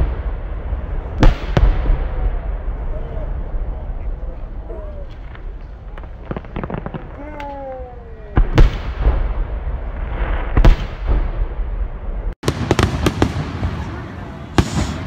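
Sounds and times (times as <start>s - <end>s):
fireworks booms: 0.0s - 15.0s
fireworks crackling: 0.0s - 15.0s.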